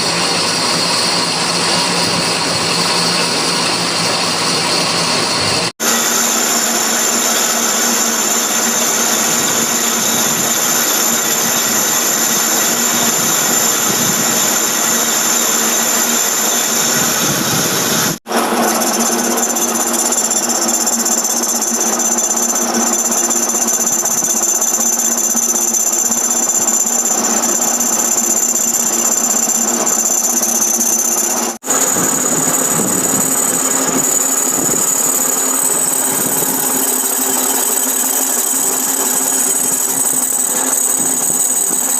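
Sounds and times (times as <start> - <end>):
high squeal from cutting: 0.0 - 41.9
metal lathe machining: 0.0 - 41.9.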